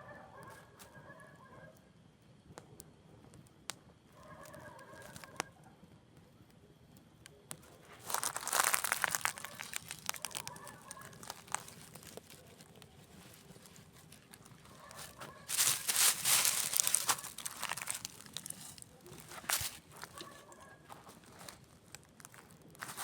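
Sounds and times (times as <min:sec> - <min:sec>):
campfire crackling and popping: 0:02.4 - 0:05.5, 0:06.1 - 0:23.0.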